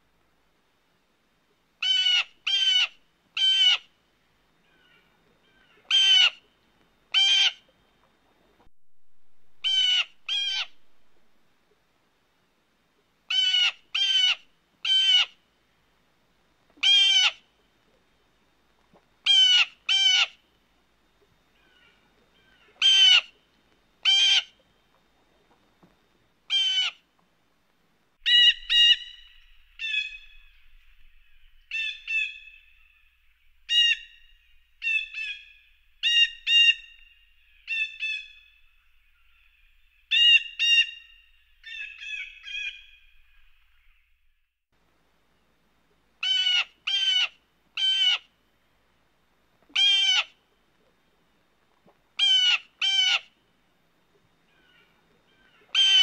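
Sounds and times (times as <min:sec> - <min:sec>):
faint hiss: 0:00.0 - 0:44.1, 0:44.8 - 0:55.8.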